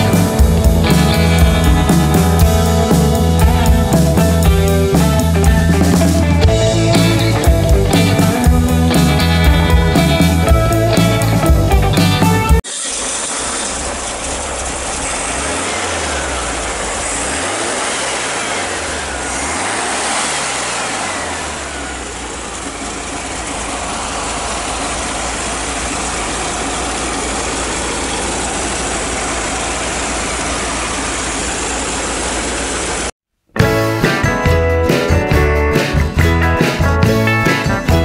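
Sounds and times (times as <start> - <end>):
car engine revving and idling: 0.0 - 33.2.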